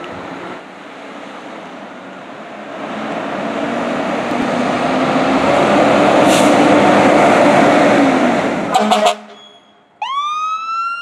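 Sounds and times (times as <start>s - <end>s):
fire engine diesel engine: 0.0s - 11.0s.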